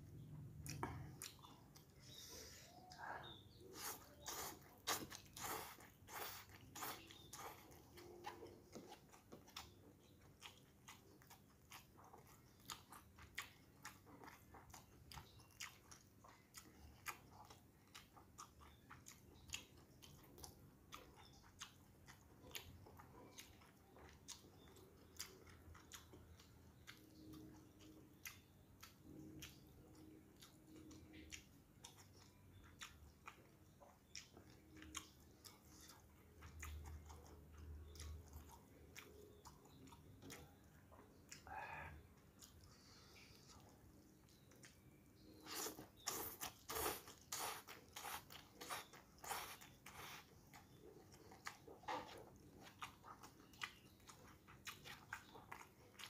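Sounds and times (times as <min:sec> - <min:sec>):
man chewing food: 0:00.0 - 0:56.0.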